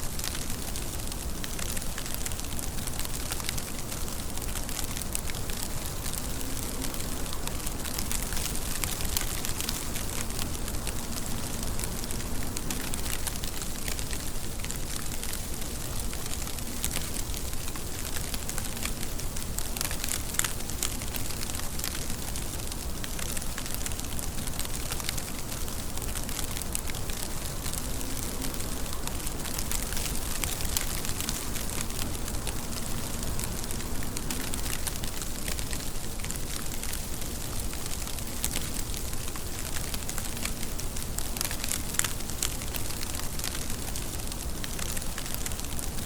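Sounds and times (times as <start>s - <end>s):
steady rainfall: 0.0s - 46.0s.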